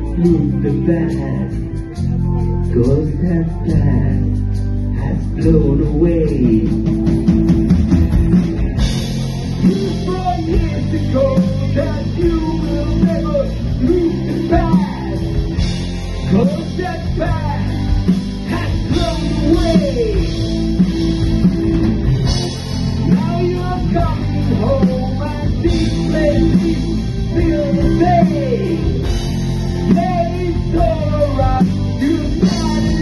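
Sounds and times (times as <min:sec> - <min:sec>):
lead singer singing: 0:00.0 - 0:02.0, 0:02.7 - 0:07.2, 0:09.5 - 0:20.8, 0:22.9 - 0:33.0
rock band playing live: 0:00.0 - 0:33.0.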